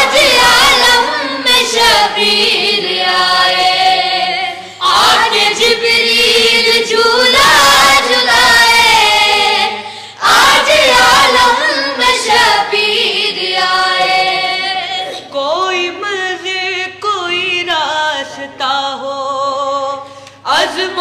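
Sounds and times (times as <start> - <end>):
boys singing unaccompanied: 0.0 - 18.6.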